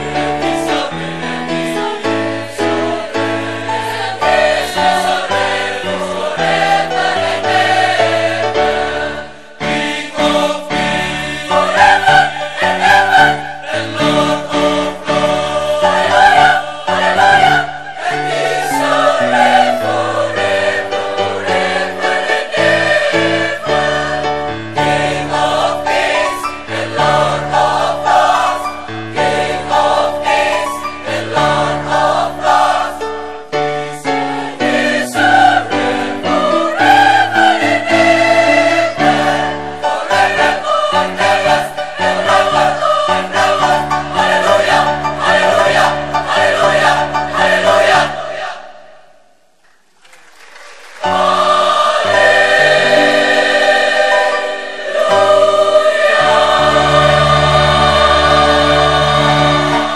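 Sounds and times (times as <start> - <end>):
mixed choir singing: 0.0 - 49.3, 51.0 - 59.9.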